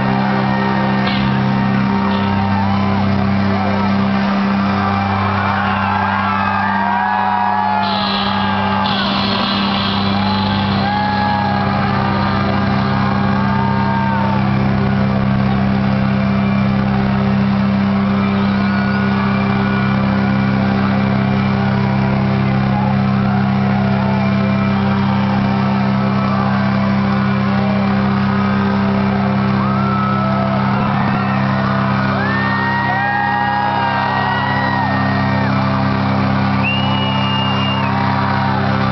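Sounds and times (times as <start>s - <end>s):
crowd shouting and whooping: 0.0s - 38.9s.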